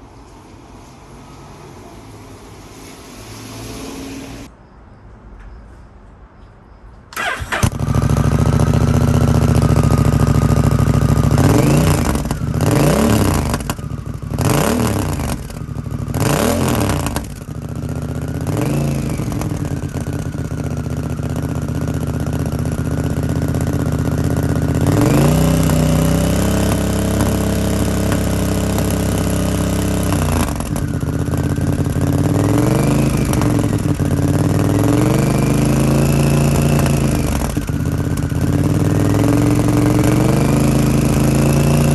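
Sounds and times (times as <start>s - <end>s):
motorcycle engine revving: 7.2s - 41.9s.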